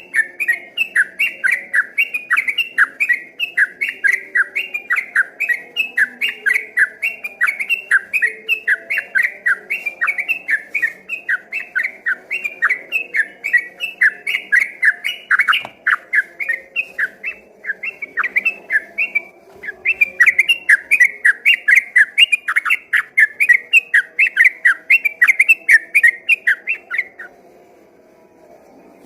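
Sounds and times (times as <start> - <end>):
bulbul singing whistled notes: 0.0 - 27.3.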